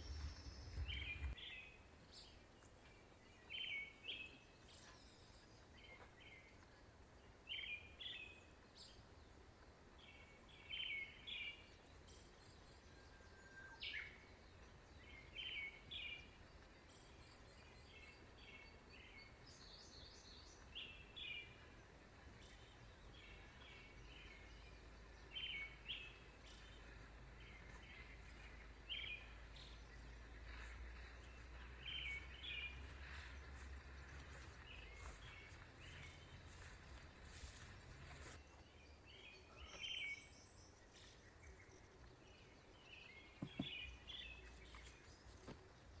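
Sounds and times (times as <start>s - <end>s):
faint songbirds chirping: 0.0s - 46.0s.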